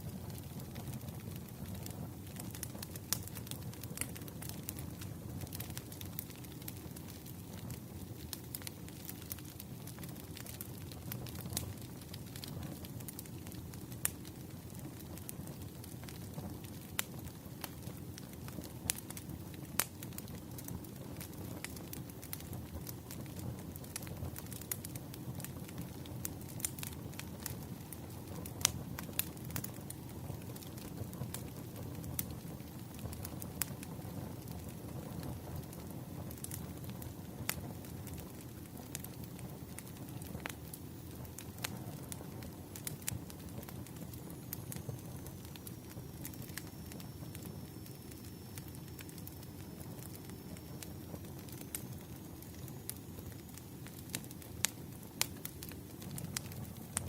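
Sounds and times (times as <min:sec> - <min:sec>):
firewood crackling and popping: 0:00.0 - 0:57.0
low rumble of fire: 0:00.0 - 0:57.0.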